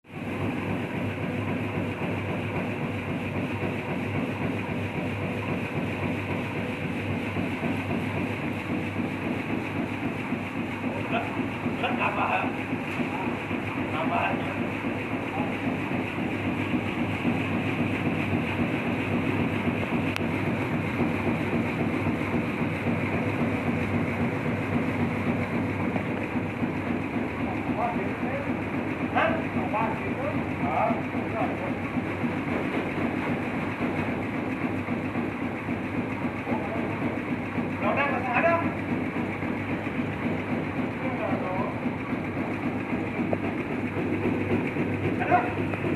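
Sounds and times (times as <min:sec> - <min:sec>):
grain separator machine running: 0:00.1 - 0:45.9.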